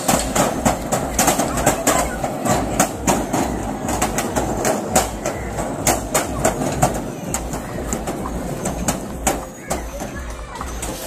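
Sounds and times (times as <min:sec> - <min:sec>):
metal wheel rumbling on rollers: 0:00.0 - 0:11.0.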